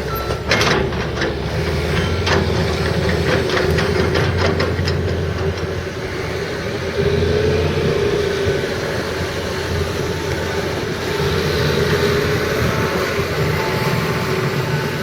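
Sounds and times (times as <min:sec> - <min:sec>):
excavator diesel engine droning: 0:00.0 - 0:15.0
wavering engine whine: 0:00.0 - 0:15.0.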